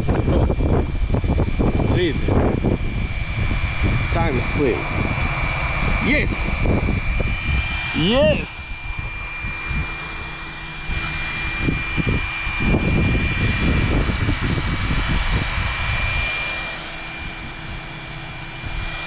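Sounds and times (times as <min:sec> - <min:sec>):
steady high-pitched whine: 0:00.0 - 0:19.0
wind rumbling on microphone: 0:00.0 - 0:19.0.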